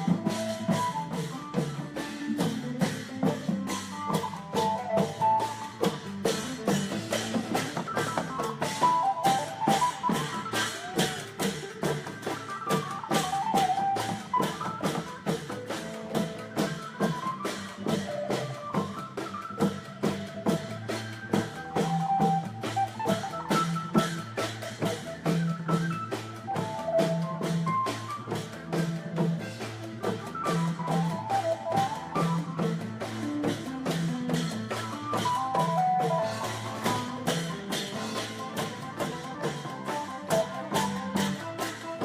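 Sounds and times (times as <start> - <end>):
drum ensemble playing: 0.0 - 42.0.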